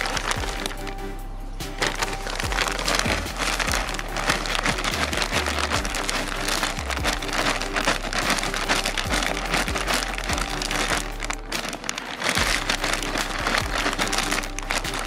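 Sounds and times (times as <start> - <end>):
plastic bag crinkling: 0.0 - 1.1, 1.7 - 15.0
quiet background music: 0.0 - 15.0
soil pouring into a hole: 1.7 - 15.0.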